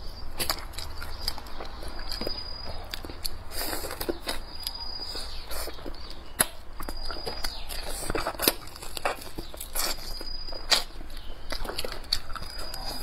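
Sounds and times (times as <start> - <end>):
close chewing with mouth clicks: 0.0 - 13.0.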